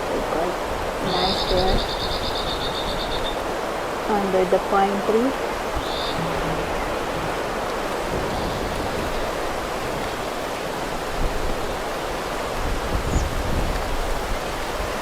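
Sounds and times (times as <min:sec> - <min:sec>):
wind and rain rushing: 0:00.0 - 0:15.0
wind gusts buffeting microphone: 0:00.0 - 0:15.0.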